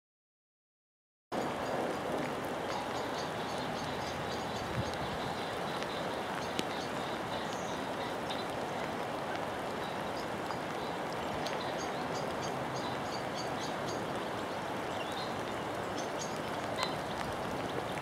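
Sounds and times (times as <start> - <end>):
small birds chirping: 2.6 - 9.0, 9.7 - 18.0.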